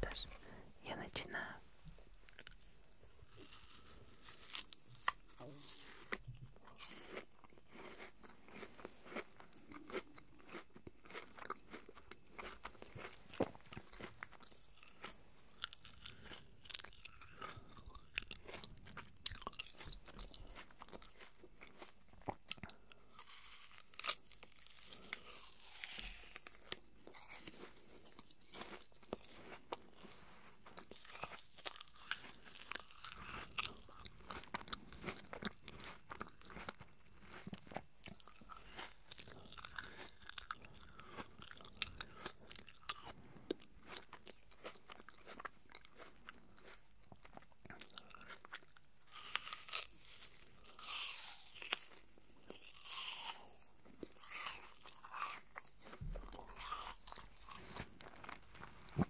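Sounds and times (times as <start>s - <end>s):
crunchy apple chewing: 2.2s - 59.0s.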